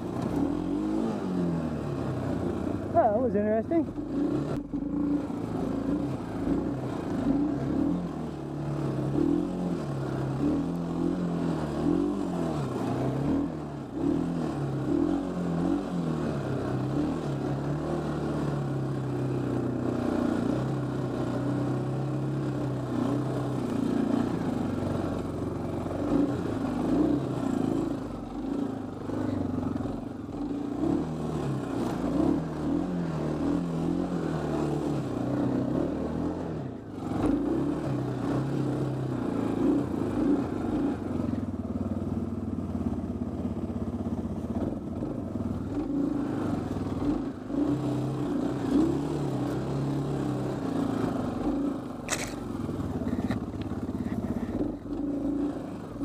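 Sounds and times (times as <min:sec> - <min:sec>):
quad engine revving: 0:00.0 - 0:42.2, 0:44.4 - 0:56.0.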